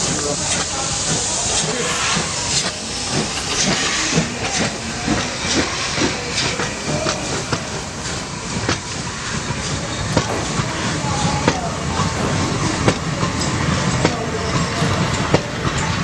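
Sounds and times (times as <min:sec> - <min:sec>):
model train rumble: 0:00.0 - 0:16.0
sharp clicks of train wheels: 0:00.0 - 0:16.0.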